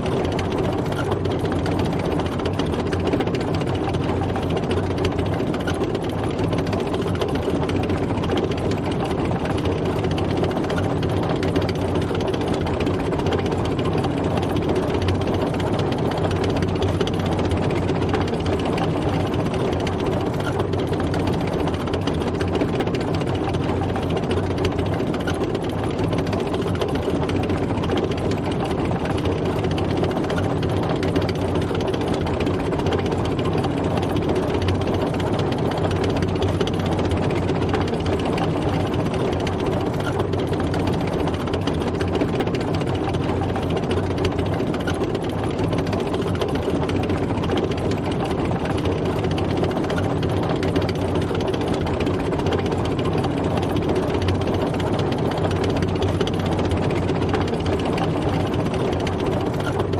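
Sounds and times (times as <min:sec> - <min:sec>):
tank engine running: 0:00.0 - 0:59.9.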